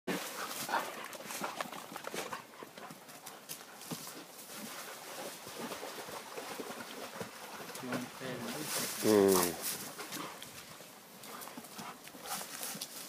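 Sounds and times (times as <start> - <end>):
dogs running on leafy trail: 0.1 - 13.0.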